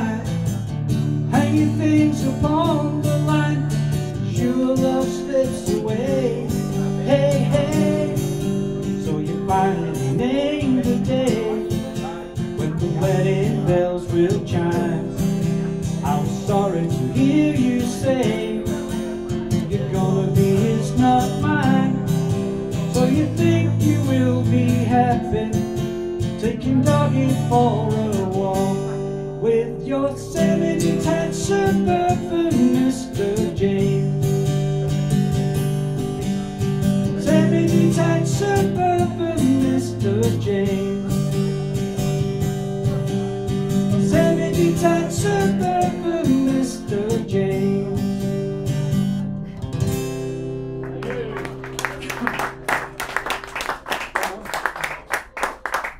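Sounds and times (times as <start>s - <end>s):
man singing: 0.0s - 34.7s, 37.0s - 42.2s, 42.8s - 48.8s
acoustic guitar strumming chords: 0.0s - 53.5s.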